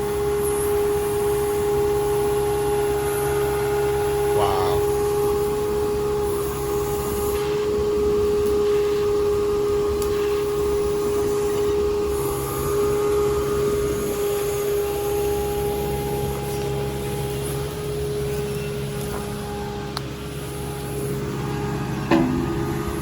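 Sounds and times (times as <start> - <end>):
digging machine engine running: 0.0 - 23.0.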